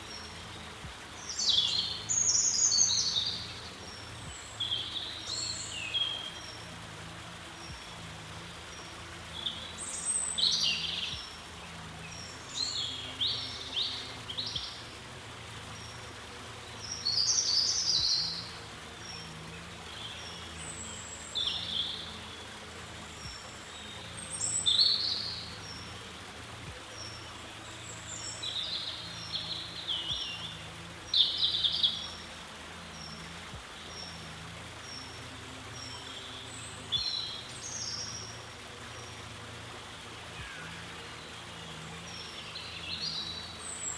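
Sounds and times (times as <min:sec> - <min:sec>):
small birds chirping and singing: 0:00.0 - 0:43.9.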